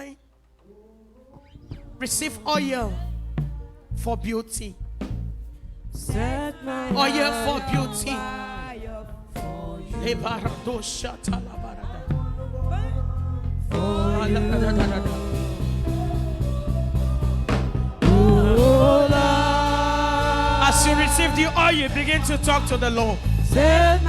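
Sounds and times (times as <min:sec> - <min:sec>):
person singing gospel: 0:00.0 - 0:04.8, 0:06.0 - 0:24.0
steady beat and bass: 0:02.8 - 0:08.8, 0:09.4 - 0:24.0.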